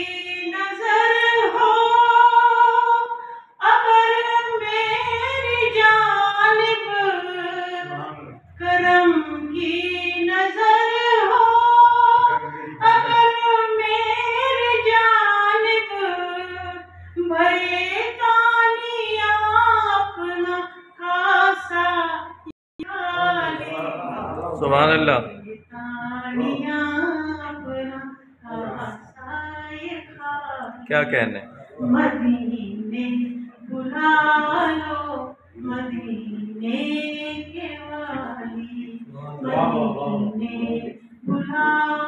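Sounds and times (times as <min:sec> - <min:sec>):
woman singing devotional song: 0:00.0 - 0:30.9, 0:31.8 - 0:42.0.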